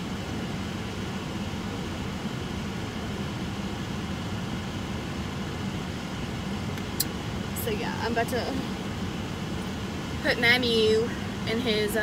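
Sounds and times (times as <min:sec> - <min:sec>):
air conditioning fan hiss: 0:00.0 - 0:12.0
car engine idling drone: 0:00.0 - 0:12.0.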